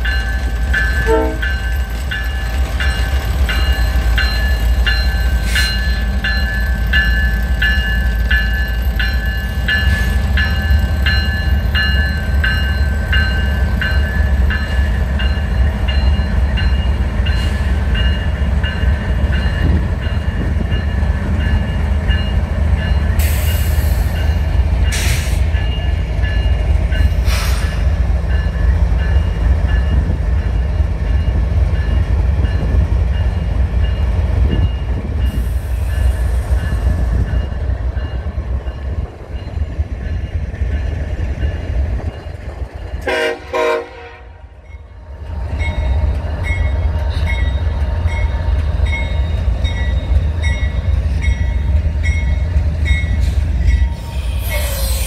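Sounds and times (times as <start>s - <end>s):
locomotive bell ringing: 0.0s - 27.3s, 28.2s - 54.6s.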